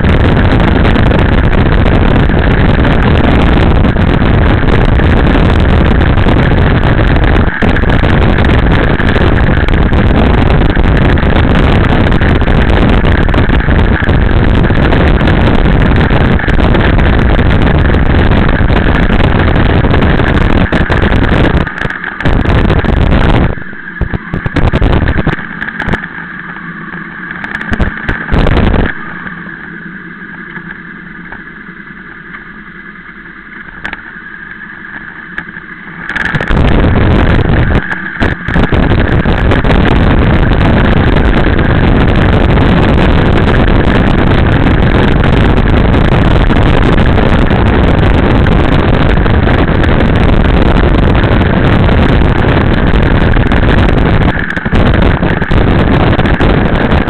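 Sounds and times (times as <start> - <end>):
wind rushing: 0.0 - 26.1, 26.7 - 29.5, 36.1 - 57.0
motorcycle engine: 0.0 - 32.0, 35.0 - 57.0.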